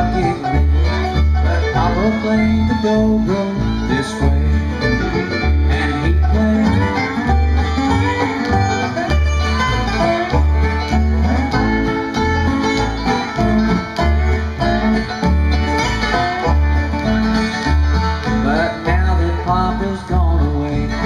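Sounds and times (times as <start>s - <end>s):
acoustic guitar: 0.0s - 21.0s
banjo: 0.0s - 21.0s
dobro sliding notes: 0.0s - 21.0s
fiddle: 0.0s - 21.0s
upright bass: 0.0s - 21.0s.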